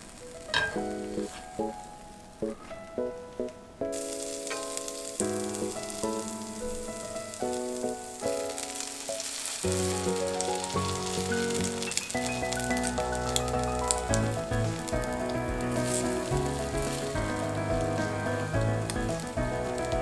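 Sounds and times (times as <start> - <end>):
background piano music: 0.0 - 20.0
bread sizzling in frying pan: 3.9 - 20.0.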